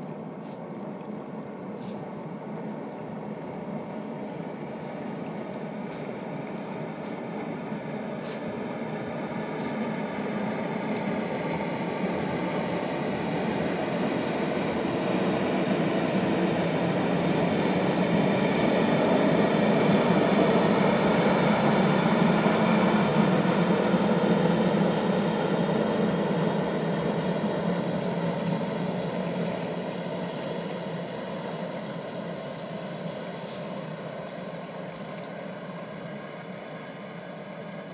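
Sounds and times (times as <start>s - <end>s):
gas turbine waterjet rush and whine: 0.0s - 37.9s.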